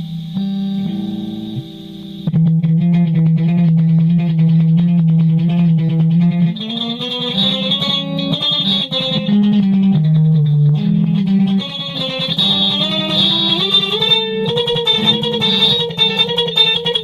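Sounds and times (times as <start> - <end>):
electric guitar solo: 0.0 - 17.0.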